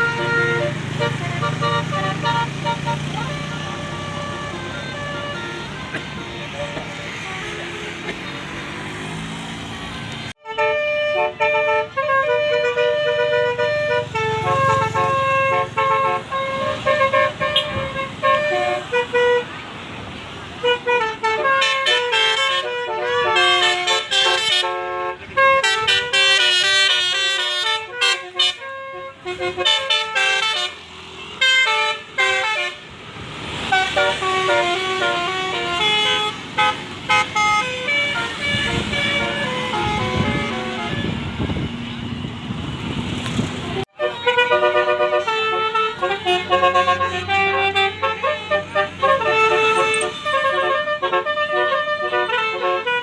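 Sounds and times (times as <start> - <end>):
bus horn playing a tune: 0.0 - 8.9, 10.1 - 19.7, 20.4 - 42.1, 43.6 - 53.0.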